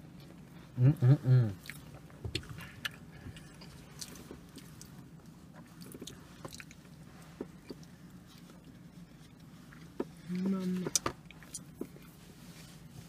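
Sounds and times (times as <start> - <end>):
quiet chewing: 1.5 - 12.9.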